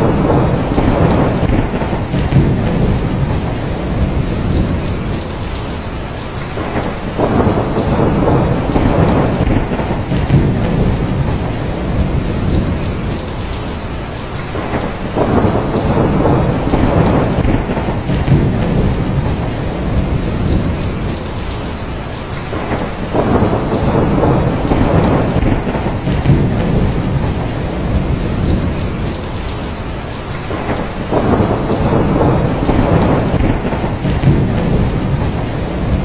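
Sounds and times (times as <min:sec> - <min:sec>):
heavy rain falling: 0:00.0 - 0:36.0
rolling thunder rumbling: 0:00.0 - 0:36.0.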